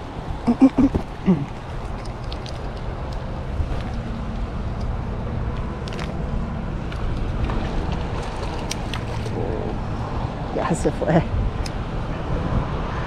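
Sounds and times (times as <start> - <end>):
flowing river water: 0.0 - 13.0
wind buffeting microphone: 0.0 - 13.0.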